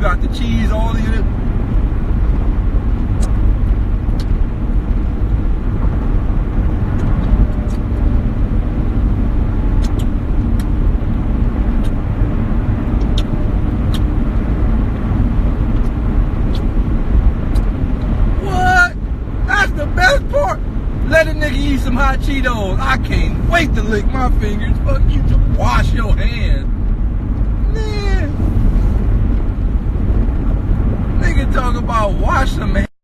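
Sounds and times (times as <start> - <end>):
loud low rumbling: 0.9 - 32.7.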